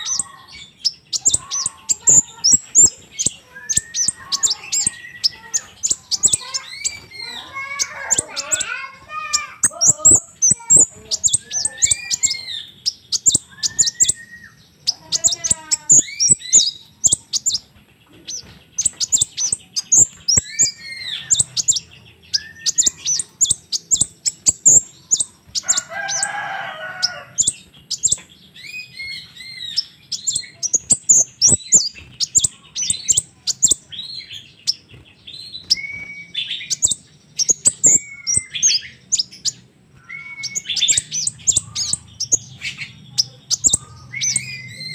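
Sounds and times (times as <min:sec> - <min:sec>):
bird chirping high-pitched notes: 0:00.0 - 0:44.9.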